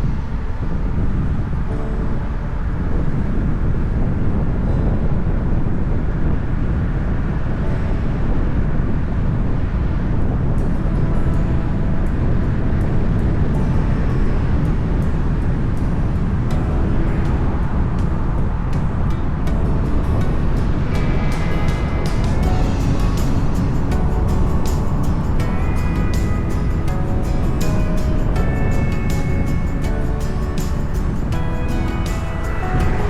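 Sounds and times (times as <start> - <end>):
moving vehicle rumble: 0.0 - 33.0.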